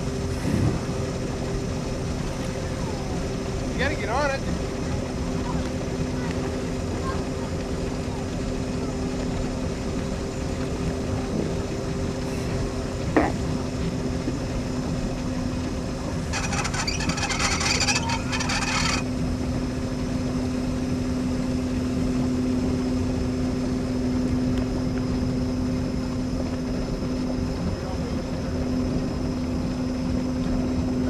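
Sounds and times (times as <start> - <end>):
motorboat engine idling: 0.0 - 31.0.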